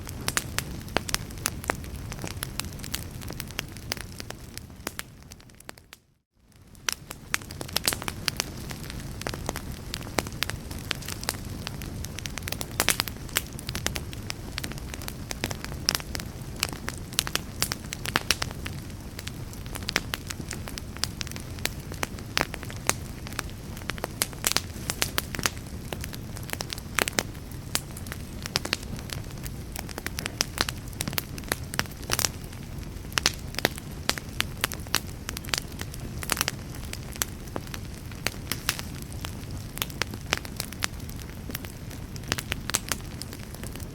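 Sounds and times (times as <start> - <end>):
low rumble of flame: 0.0 - 43.9
wood fire crackling and popping: 0.0 - 43.9.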